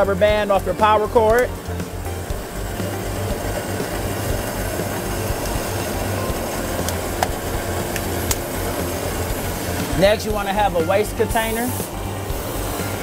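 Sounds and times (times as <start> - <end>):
shop machinery droning: 0.0 - 13.0.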